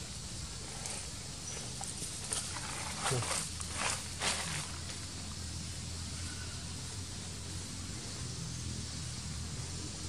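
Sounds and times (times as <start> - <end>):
even hiss: 0.0 - 10.0.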